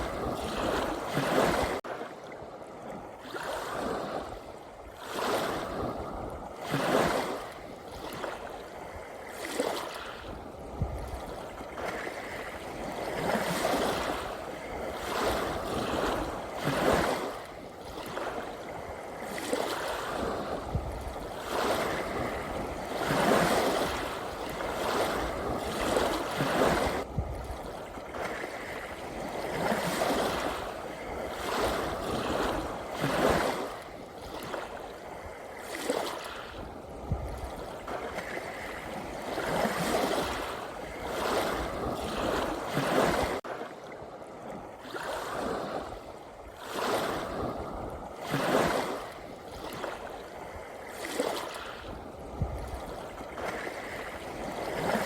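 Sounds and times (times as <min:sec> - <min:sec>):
small sea waves splashing: 0:00.0 - 0:55.0.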